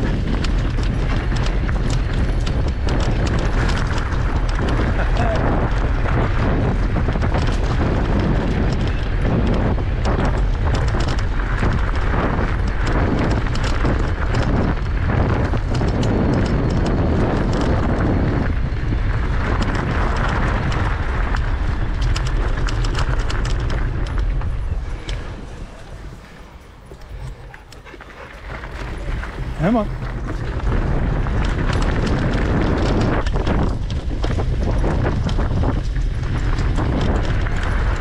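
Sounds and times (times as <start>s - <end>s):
bike tyre crunching over gravel: 0.0s - 38.0s
wind rumble on microphone: 0.0s - 38.0s.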